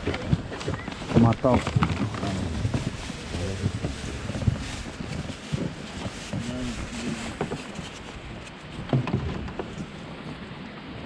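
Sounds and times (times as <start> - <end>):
sea noise: 0.0 - 11.0
wind: 0.0 - 11.0.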